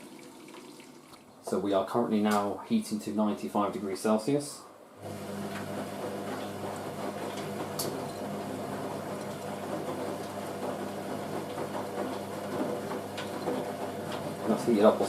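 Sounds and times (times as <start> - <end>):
washing machine humming: 0.0 - 2.6, 4.8 - 15.0.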